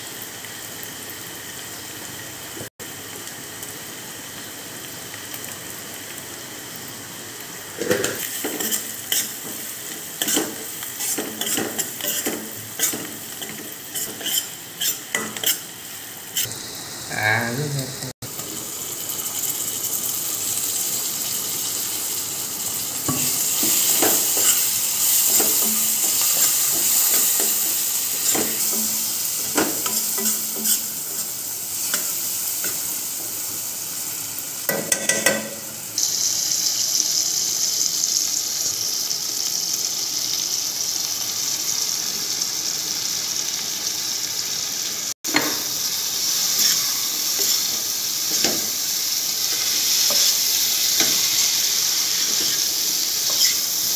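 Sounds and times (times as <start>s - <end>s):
masala sizzling in oil: 0.0s - 53.9s.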